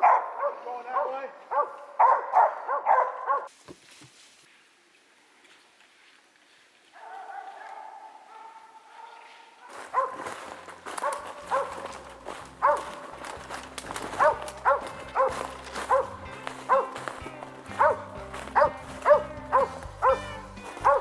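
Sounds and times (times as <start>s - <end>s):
dog barking: 0.0s - 3.5s, 7.0s - 17.0s, 17.7s - 21.0s.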